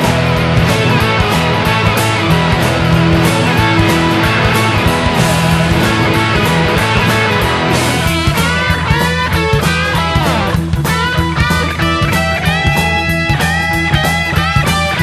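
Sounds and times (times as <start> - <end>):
blues-rock band playing riff: 0.0 - 15.0
sliding lead guitar notes: 0.0 - 15.0.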